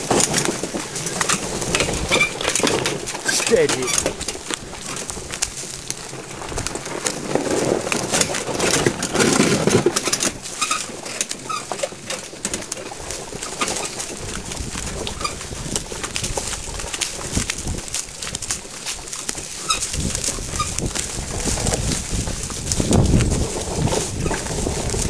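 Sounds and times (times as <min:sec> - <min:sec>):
hooves and wheels clattering: 0:00.0 - 0:25.0.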